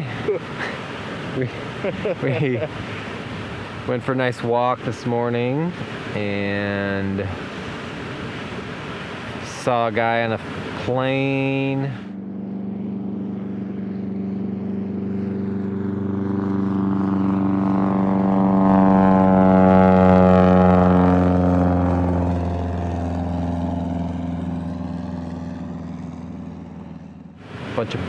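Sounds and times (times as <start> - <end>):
passing engine drone: 0.0 - 28.0.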